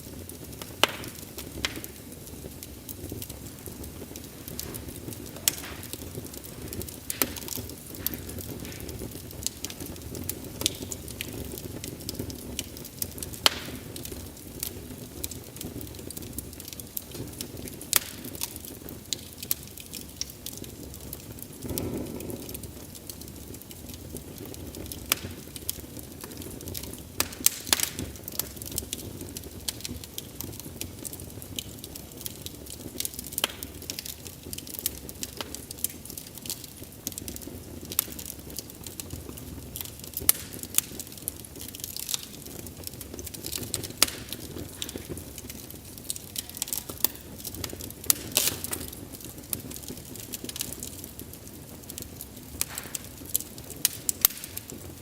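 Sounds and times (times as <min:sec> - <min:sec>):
logs crackling and popping: 0:00.0 - 0:55.0
rush of flames: 0:00.0 - 0:55.0.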